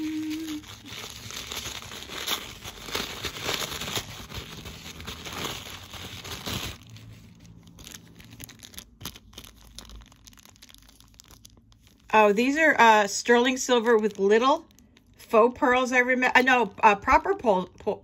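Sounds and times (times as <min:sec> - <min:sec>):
tissue paper crinkling: 0:00.0 - 0:15.2
plastic zip bag crinkles: 0:00.0 - 0:15.3.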